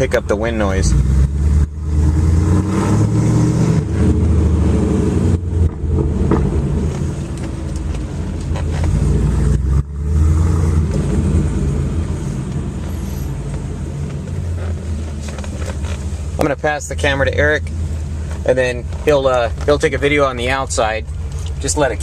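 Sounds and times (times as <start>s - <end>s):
car engine with throaty exhaust: 0.0s - 22.0s.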